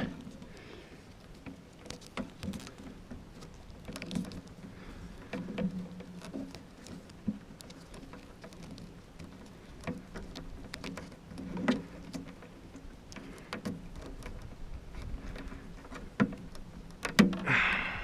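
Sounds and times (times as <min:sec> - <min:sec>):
electrical tape crackling off roll: 0:00.0 - 0:17.7.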